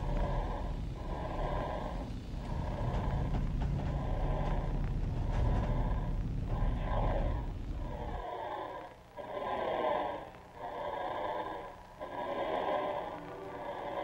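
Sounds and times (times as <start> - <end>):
pulsing mid-range noise: 0.0 - 14.0.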